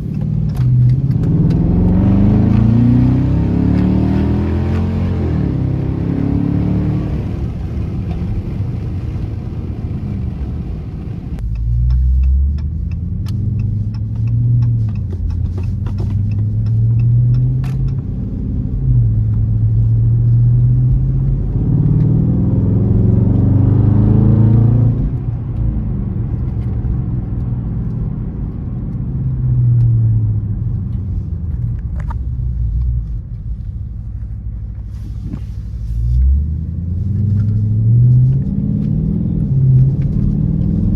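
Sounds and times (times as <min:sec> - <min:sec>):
car engine revving inside car: 0:00.0 - 0:40.9.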